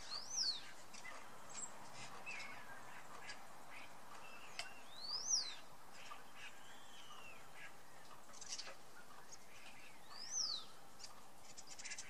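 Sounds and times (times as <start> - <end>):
starling chirps: 0.0 - 12.0.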